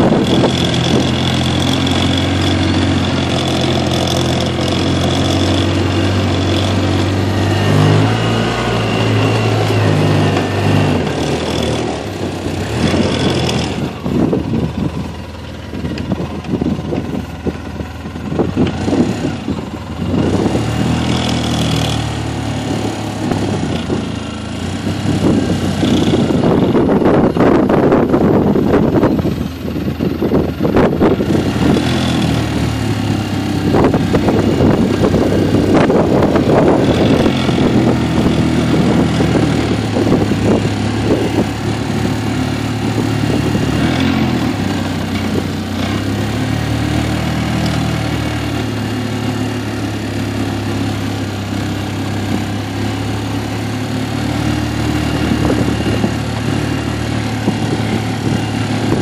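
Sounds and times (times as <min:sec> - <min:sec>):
vehicle engine humming: 0:00.0 - 0:59.0.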